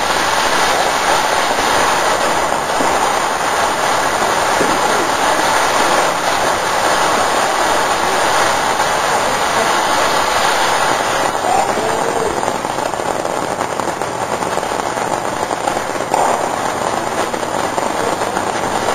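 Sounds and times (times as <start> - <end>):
firework fountain hissing: 0.0 - 18.9.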